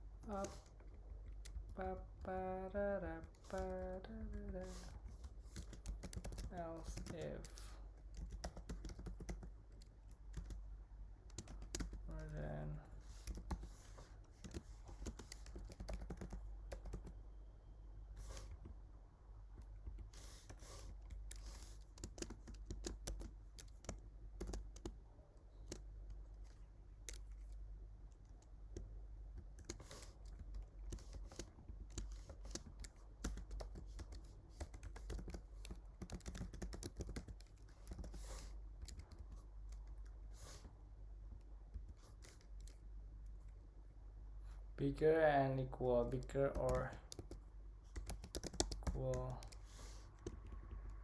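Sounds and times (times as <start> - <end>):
computer keyboard typing: 0.2 - 17.3, 19.5 - 40.3, 41.3 - 42.9, 46.0 - 51.0.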